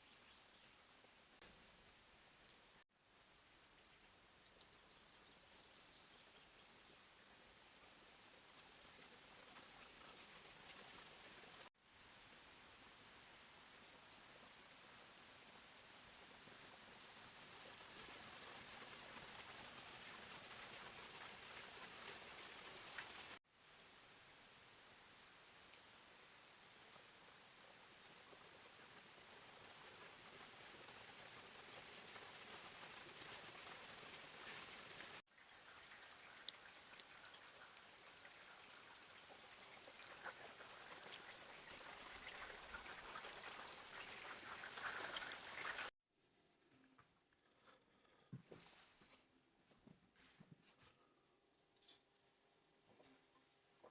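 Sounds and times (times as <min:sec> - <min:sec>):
faint steady rain: 0:00.0 - 0:53.9.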